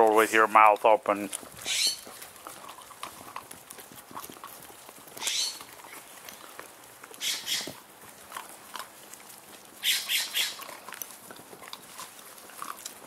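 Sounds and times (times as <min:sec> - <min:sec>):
puppies yipping: 0:01.5 - 0:13.0.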